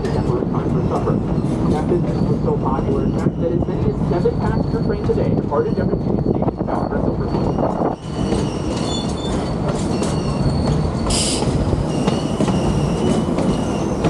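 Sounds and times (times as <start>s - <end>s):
steel wheels squealing: 0.0s - 14.0s
train rumbling on track: 0.0s - 14.0s.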